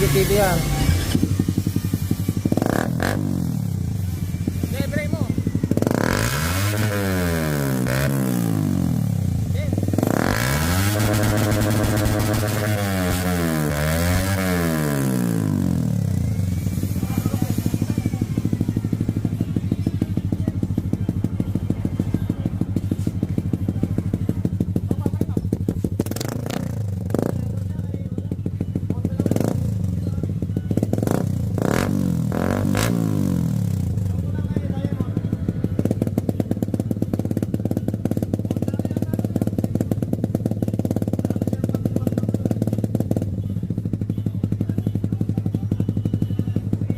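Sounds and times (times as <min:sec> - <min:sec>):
motorcycle engine idling: 0:00.0 - 0:13.8, 0:14.6 - 0:46.9.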